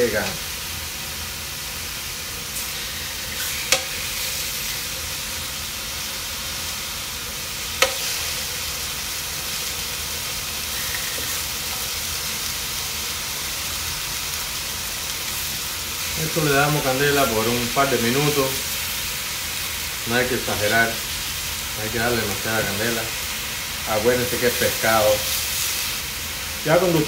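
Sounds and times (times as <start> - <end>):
fish fillets sizzling in oil: 0.0 - 27.0.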